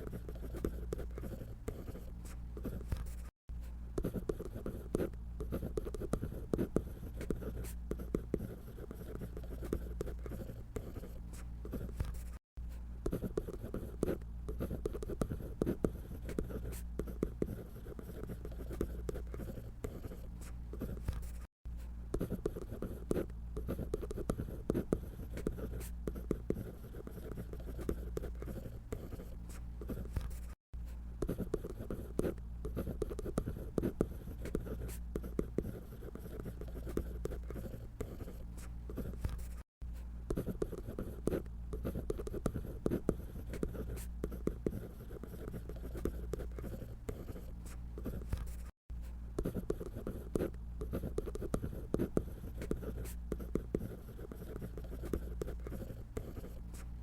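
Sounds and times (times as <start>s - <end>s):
drawing tool scratching on paper: 0.0s - 3.3s, 4.0s - 12.4s, 13.0s - 21.5s, 22.1s - 30.6s, 31.2s - 48.8s, 49.4s - 57.0s.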